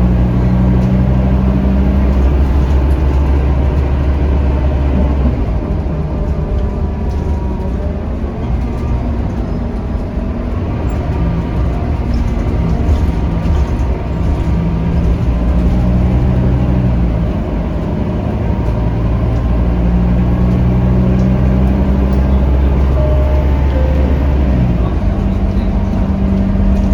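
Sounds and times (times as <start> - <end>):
bus diesel engine drone: 0.0 - 26.9.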